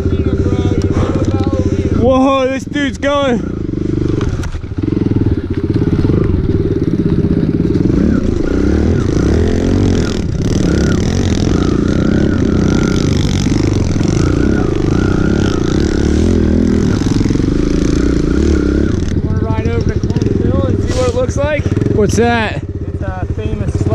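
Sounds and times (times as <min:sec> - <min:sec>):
pit bike engine revving: 0:00.0 - 0:23.9.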